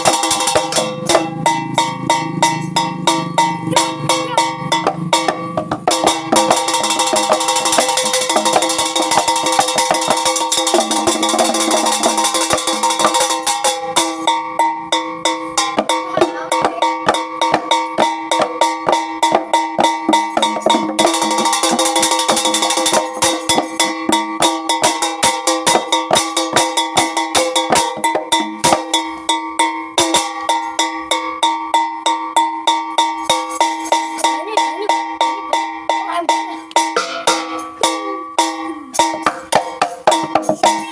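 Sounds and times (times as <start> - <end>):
drums and small gongs: 0.0 - 40.9
percussion ensemble dance music: 0.0 - 40.9.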